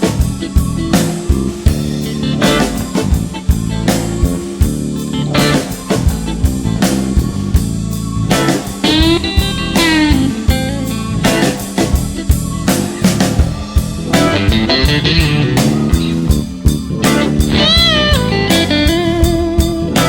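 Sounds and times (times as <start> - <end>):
bass guitar: 0.0 - 20.0
blues lead guitar: 0.0 - 20.0
drum kit beat: 0.0 - 20.0.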